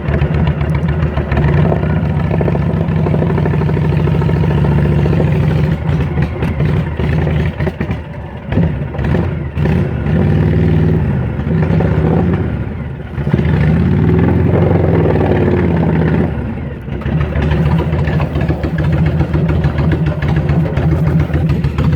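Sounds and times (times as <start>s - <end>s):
vehicle engine revving: 0.0s - 21.9s.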